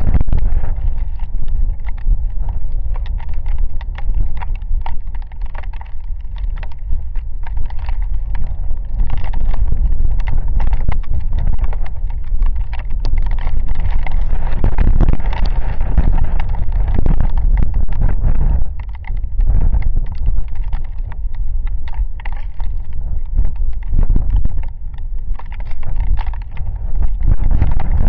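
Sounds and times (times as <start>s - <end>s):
raindrops tapping microphone: 0.0s - 28.0s
wind rumble on microphone: 0.0s - 28.0s.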